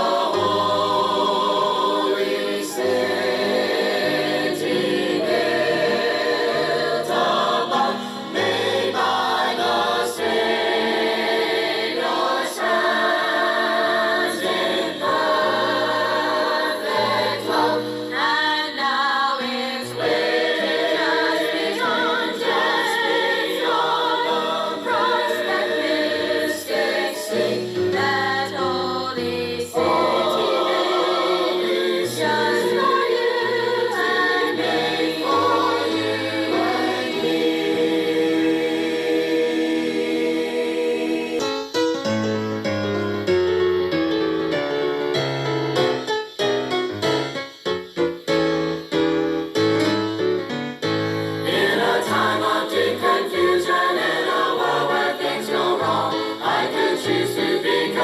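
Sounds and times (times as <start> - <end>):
group singing gospel in harmony: 0.0 - 41.7, 51.2 - 58.0.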